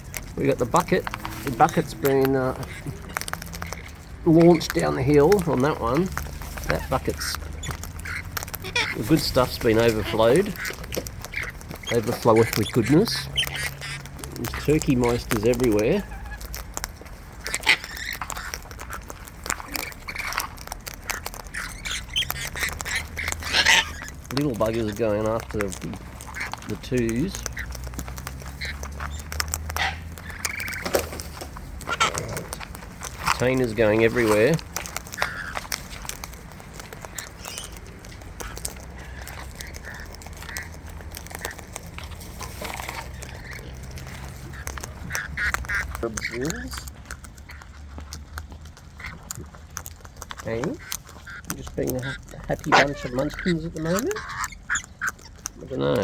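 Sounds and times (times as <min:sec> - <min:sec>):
bird beaks pecking seed: 0:00.0 - 0:56.0.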